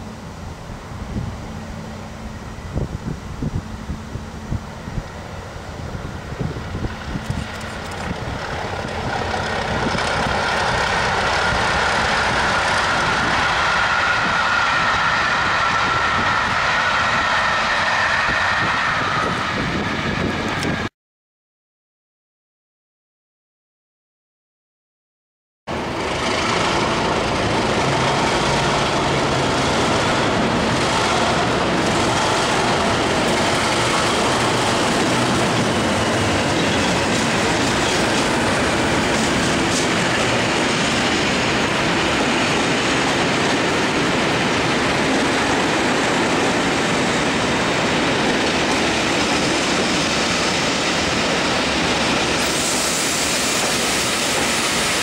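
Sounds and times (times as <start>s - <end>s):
diesel locomotive engines rumbling: 0.0s - 20.9s, 25.7s - 55.0s.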